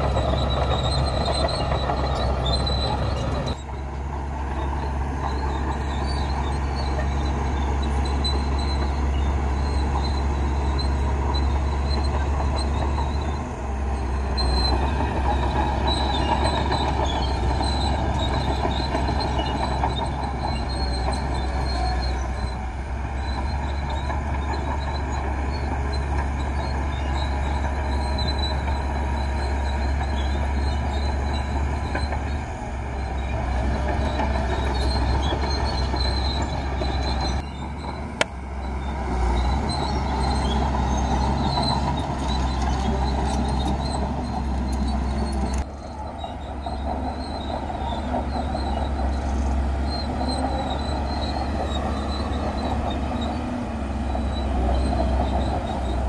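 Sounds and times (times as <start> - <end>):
bulldozer diesel engine: 0.0 - 56.0
steel tracks squeaking: 0.0 - 56.0.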